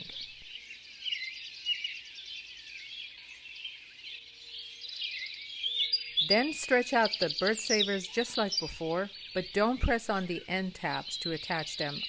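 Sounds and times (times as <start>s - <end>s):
wild birds chirping and singing: 0.0s - 12.0s.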